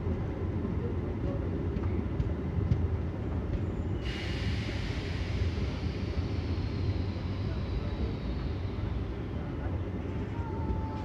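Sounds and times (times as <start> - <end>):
train rumble from inside coach: 0.0 - 11.0.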